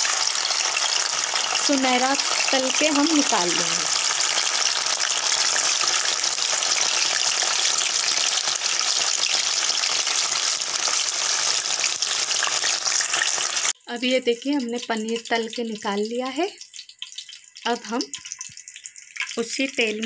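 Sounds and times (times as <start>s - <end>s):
food deep-frying in hot oil: 0.0s - 20.0s.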